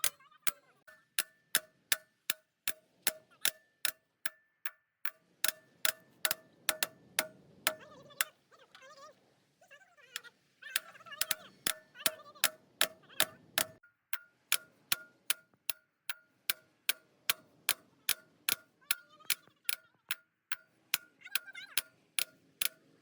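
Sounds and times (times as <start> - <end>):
sharp metallic ticks: 0.0 - 8.4, 10.2 - 22.9.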